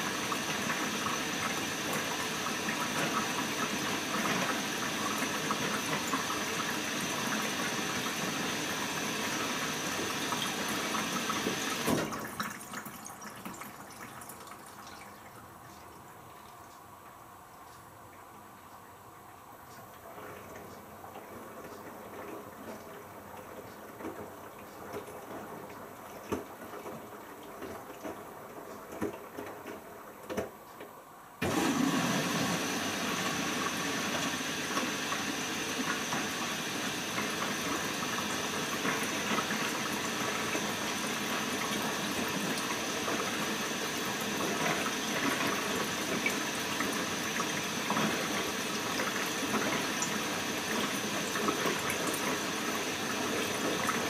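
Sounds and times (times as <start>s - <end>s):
water rushing into washing machine: 0.0s - 16.6s, 19.2s - 30.5s, 31.4s - 54.0s.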